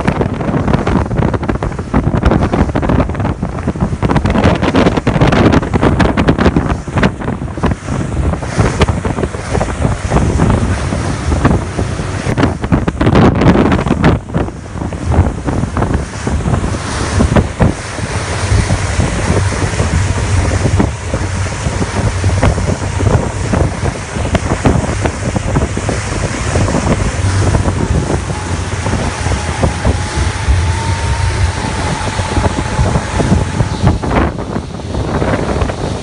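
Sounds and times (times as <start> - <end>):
low engine drone: 0.0 - 36.0
water slapping at hull: 0.0 - 36.0
wind buffeting microphone: 0.0 - 36.0.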